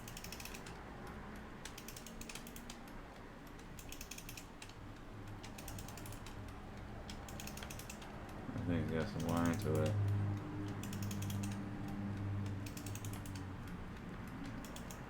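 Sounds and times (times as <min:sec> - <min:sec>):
alarm clock ratchet clicks: 0:00.0 - 0:00.8, 0:01.6 - 0:15.0.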